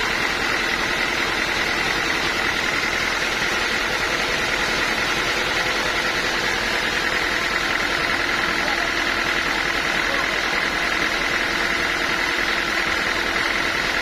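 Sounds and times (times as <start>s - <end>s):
high machine whine: 0.0s - 14.0s
sawmill machinery drone: 0.0s - 14.0s.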